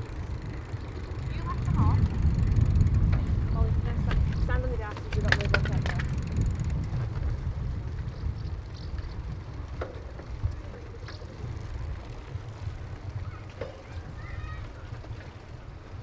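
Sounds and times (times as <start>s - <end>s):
wind and riding noise on microphone: 0.0s - 16.0s.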